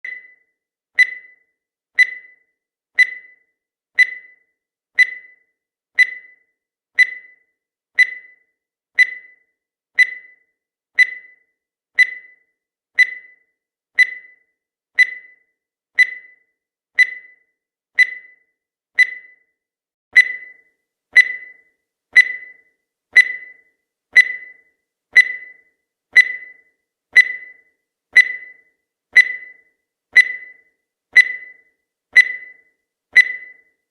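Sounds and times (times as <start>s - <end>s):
high-pitched timer ticks: 0.0s - 19.6s, 20.2s - 33.8s.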